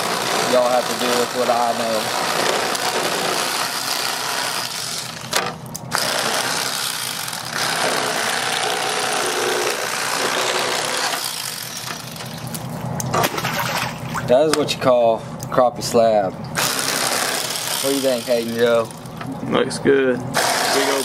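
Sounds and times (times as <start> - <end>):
electric fillet knife buzzing: 0.0 - 14.0, 16.6 - 19.3, 20.3 - 21.0.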